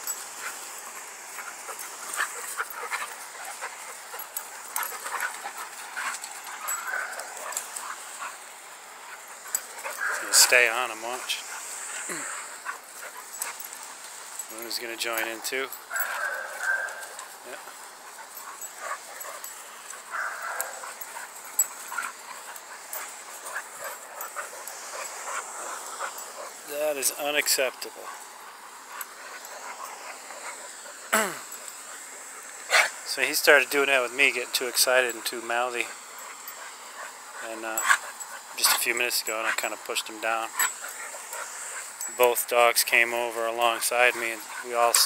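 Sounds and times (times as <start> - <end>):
dogs tussling: 0.0 - 45.0.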